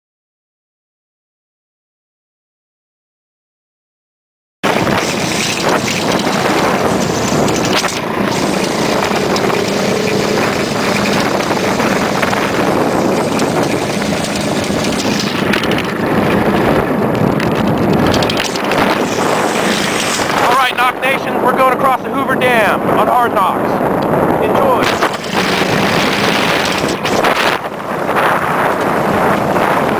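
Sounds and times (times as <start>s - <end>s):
water rushing: 4.6s - 23.5s, 24.5s - 29.9s
boat motor running: 4.6s - 29.9s
rushing wind: 4.6s - 29.9s.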